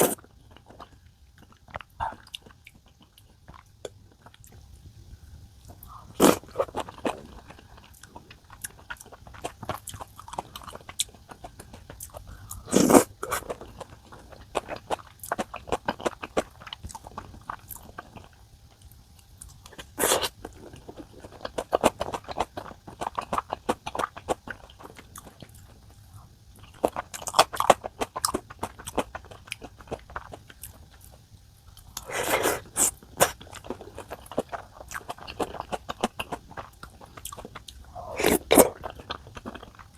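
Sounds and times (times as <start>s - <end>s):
person chewing food: 0.0s - 4.9s, 5.6s - 39.9s.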